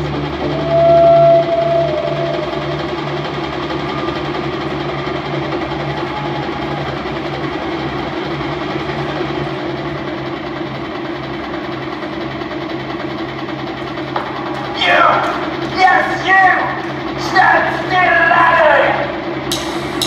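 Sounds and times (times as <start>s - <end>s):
helicopter rotor chopping: 0.0s - 20.0s.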